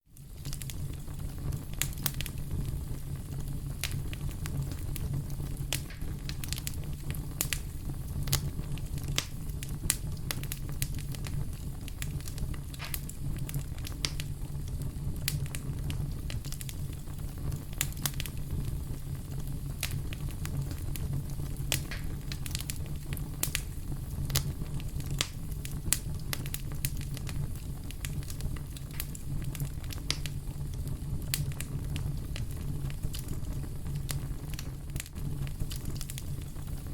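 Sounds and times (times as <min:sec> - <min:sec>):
logs crackling in a fireplace: 0:00.0 - 0:36.9.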